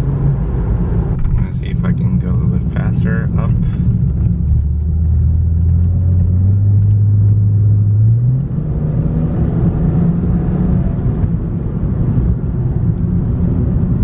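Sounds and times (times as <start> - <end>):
car exhaust drone accelerating: 0.0 - 14.0.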